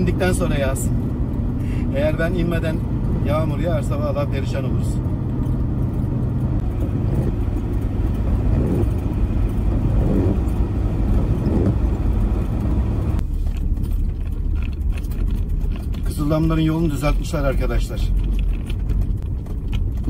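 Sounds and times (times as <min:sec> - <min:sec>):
car engine: 0:00.0 - 0:20.0
road rumble: 0:00.0 - 0:20.0.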